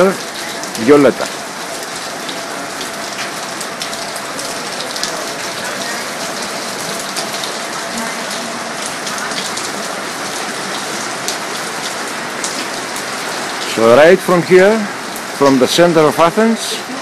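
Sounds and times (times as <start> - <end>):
heavy rain falling: 0.0 - 17.0
raindrops pattering on surfaces: 0.0 - 17.0.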